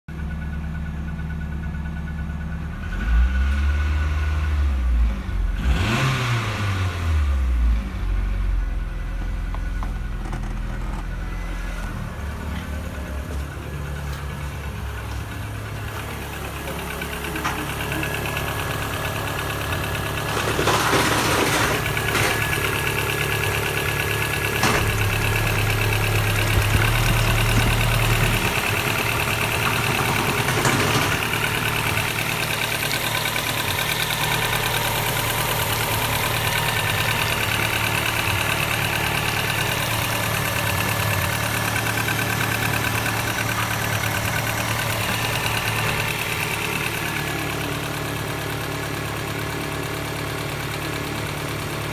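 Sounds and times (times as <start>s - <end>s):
car engine idling: 0.1s - 51.9s.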